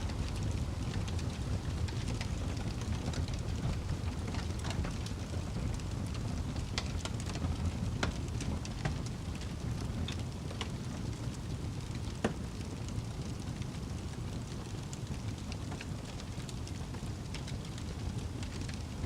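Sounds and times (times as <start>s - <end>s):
burning wood crackling and popping: 0.0s - 19.0s
low rumble of flame: 0.0s - 19.0s.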